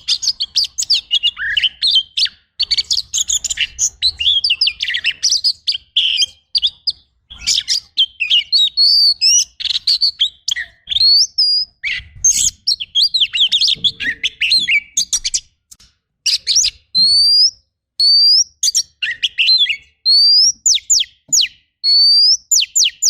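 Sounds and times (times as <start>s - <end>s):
rising bird whistles: 0.0s - 15.5s, 16.3s - 23.0s
bird singing: 0.0s - 23.0s.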